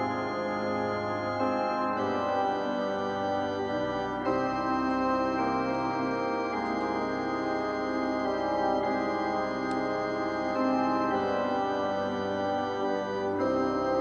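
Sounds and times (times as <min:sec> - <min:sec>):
music of sustained chords: 0:00.0 - 0:14.0.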